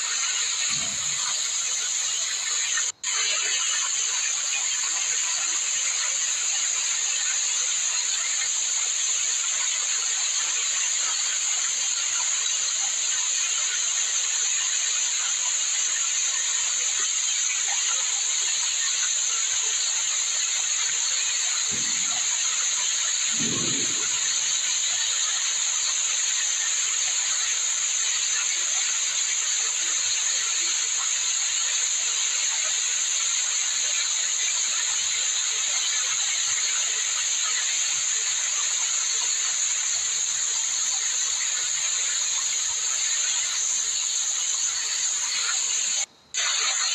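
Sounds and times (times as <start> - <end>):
small waterfall splashing: 0.0 - 46.9.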